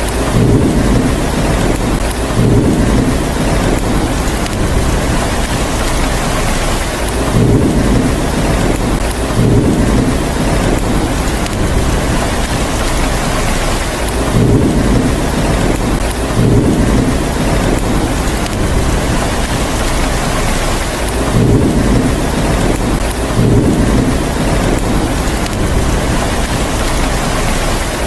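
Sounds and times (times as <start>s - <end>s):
heavy rain: 0.0s - 28.0s
low thunder rumbles: 0.0s - 28.0s.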